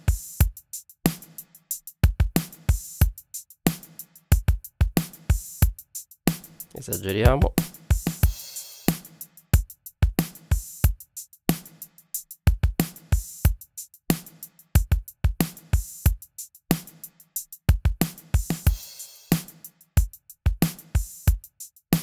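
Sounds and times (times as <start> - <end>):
compressed kick and snare beat: 0.0 - 22.0.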